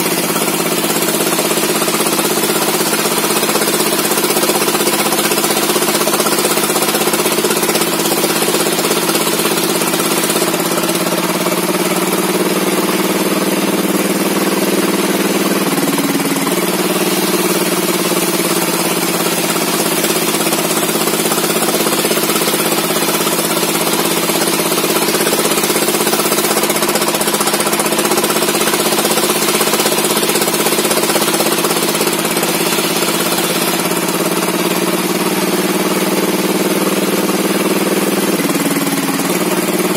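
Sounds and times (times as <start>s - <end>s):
petrol engine running at high speed: 0.0s - 39.9s.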